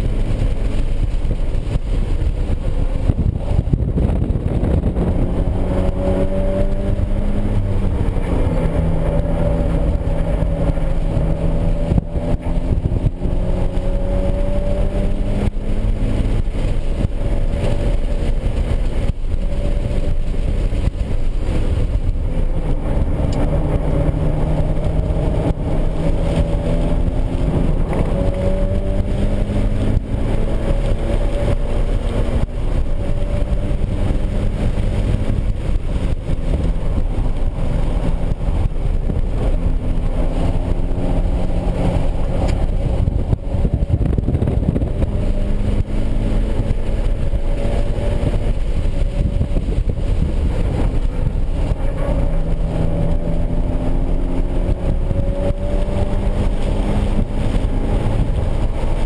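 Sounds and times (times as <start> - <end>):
car engine revving through gears: 0.0 - 59.0
road and wind noise: 0.0 - 59.0.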